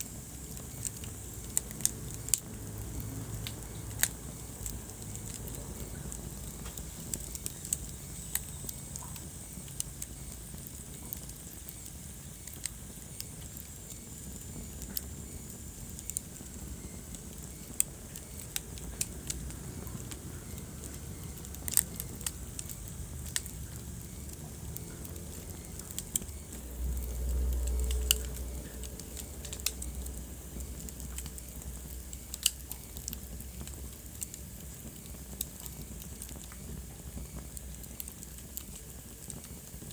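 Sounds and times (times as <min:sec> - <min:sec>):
fire crackles and pops: 0:00.0 - 0:39.9
wood fire rumbling: 0:00.0 - 0:39.9.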